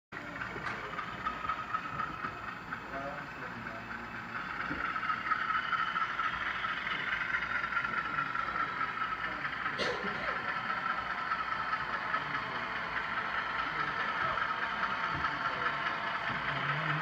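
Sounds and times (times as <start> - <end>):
model train running on track: 0.1 - 17.0.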